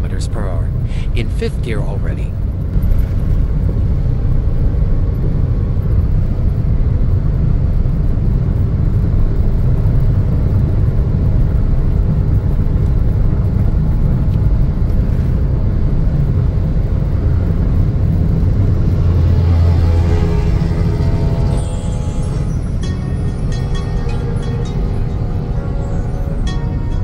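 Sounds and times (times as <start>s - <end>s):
car cabin road noise: 0.0s - 27.0s.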